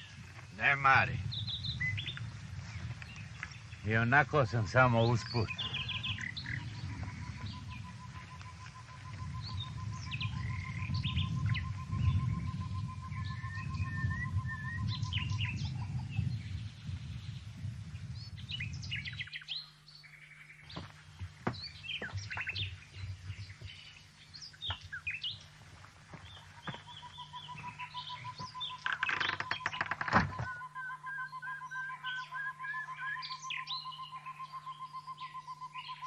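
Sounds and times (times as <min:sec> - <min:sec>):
birds chirping and singing: 0:00.0 - 0:36.0.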